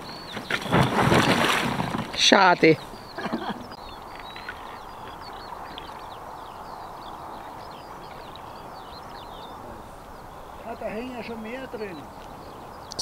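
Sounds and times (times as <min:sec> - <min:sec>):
small birds chirping and trilling: 0:00.0 - 0:13.0.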